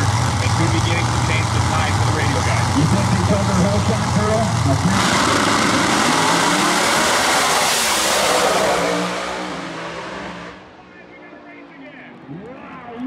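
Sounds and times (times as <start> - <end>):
drag car engines at full throttle: 0.0 - 13.0.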